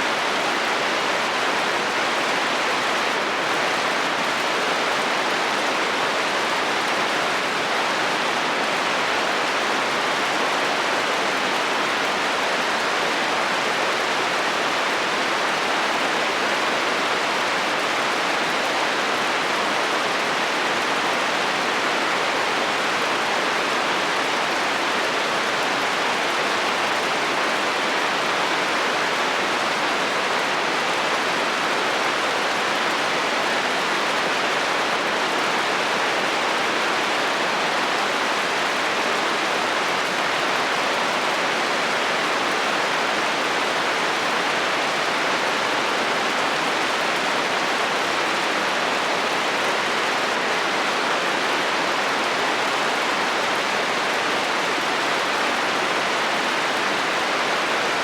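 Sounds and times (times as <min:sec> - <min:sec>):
heavy rain on metal roof: 0:00.0 - 0:58.0.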